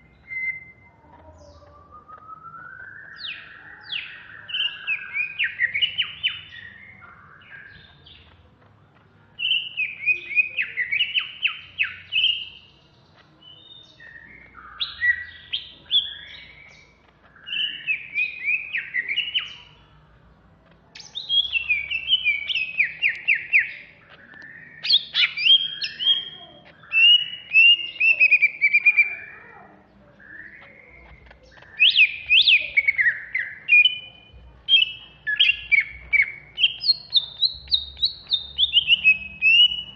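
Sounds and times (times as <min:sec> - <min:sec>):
bird singing rattling notes: 0:01.5 - 0:39.9.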